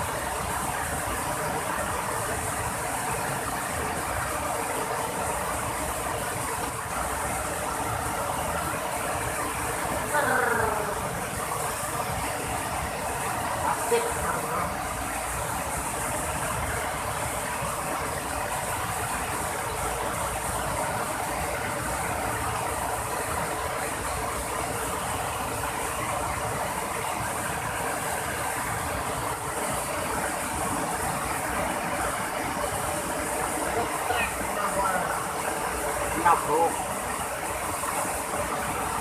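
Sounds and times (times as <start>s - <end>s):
fast-flowing river water: 0.0s - 39.0s.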